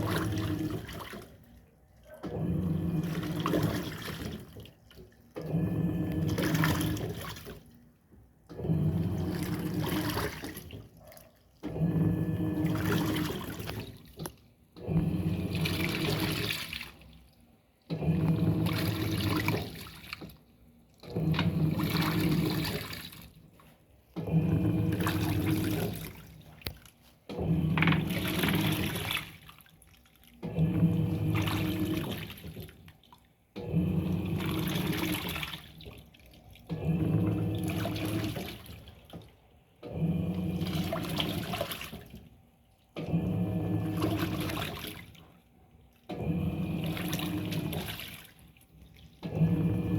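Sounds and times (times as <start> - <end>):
washing machine motor humming: 0.0 - 49.9
water sloshing: 0.0 - 49.9.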